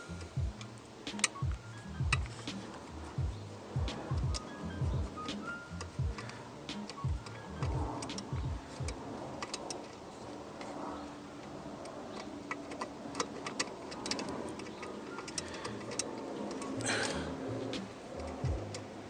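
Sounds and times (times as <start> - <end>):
hand tools clicking and tapping: 0.0 - 10.8, 11.4 - 19.0
faint steady hum: 0.0 - 19.0.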